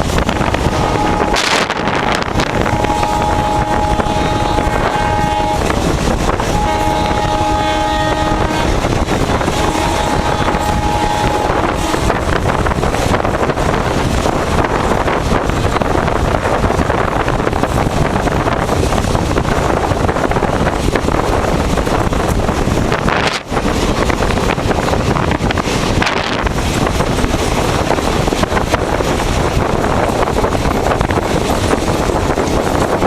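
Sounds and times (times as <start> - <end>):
train rushing at speed: 0.0 - 33.0
wind buffeting microphone: 0.0 - 33.0.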